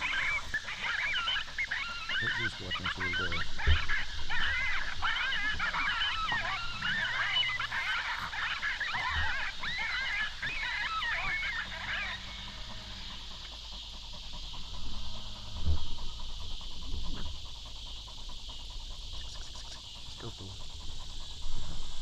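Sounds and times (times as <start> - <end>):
coyotes yipping and howling: 0.0 - 22.0.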